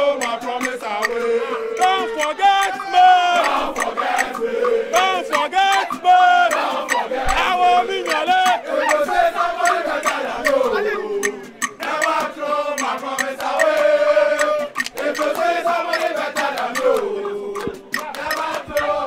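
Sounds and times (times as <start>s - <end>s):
crowd singing a chant: 0.0s - 19.0s
sharp claps: 0.0s - 19.0s.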